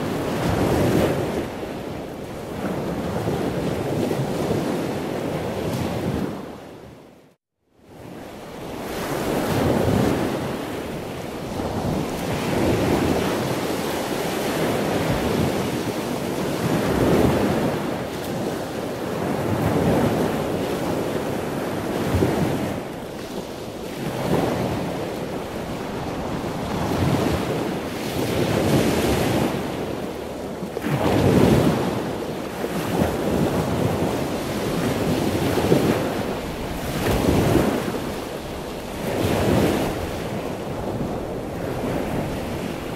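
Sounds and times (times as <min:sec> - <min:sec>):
wind: 0:00.0 - 0:42.9
sea waves washing in: 0:07.9 - 0:42.9.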